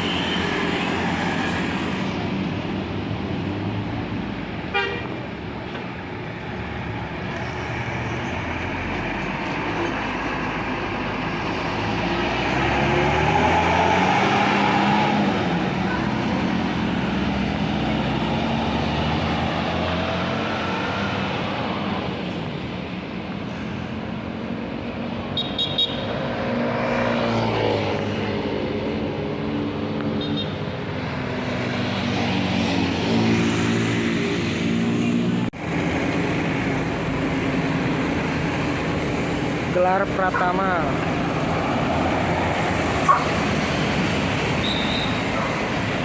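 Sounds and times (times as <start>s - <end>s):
buses driving past: 0.0s - 46.0s
traffic noise: 0.0s - 46.0s.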